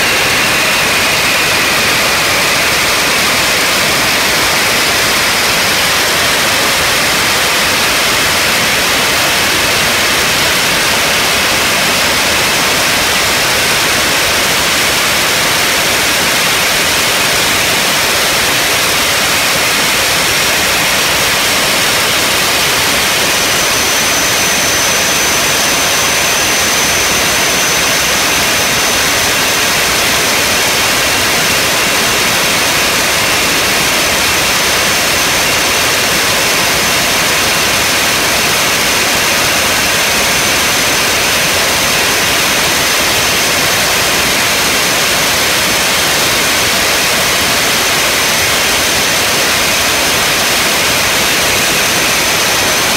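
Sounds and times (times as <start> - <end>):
rushing hissing machine noise: 0.0 - 52.9.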